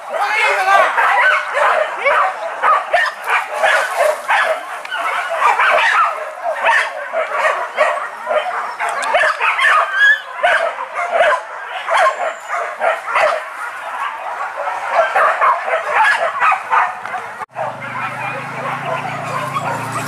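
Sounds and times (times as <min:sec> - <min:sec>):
pack of dogs barking: 0:00.0 - 0:20.0.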